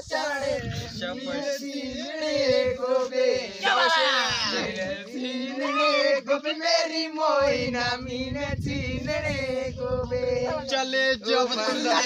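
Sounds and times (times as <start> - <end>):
men singing: 0.0 - 12.0.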